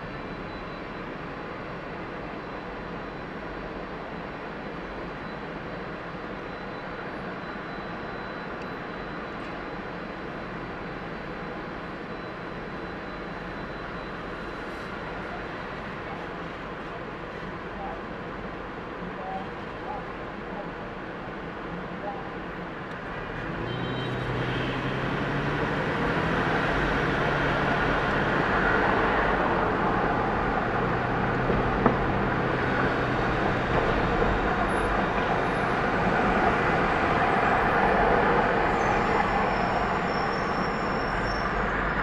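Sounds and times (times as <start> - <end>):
road and traffic noise: 0.0 - 42.0.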